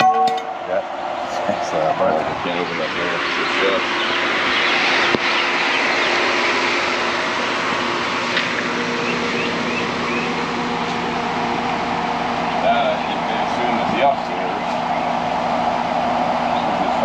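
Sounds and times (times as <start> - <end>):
machine running with low hum: 0.0 - 17.0.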